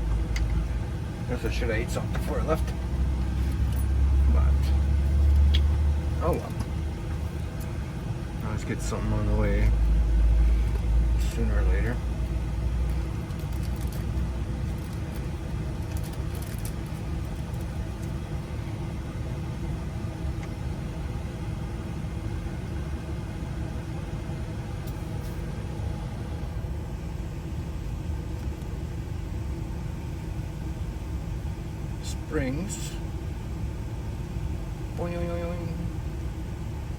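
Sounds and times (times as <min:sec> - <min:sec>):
vehicle engine rumbling: 0:00.0 - 0:36.9.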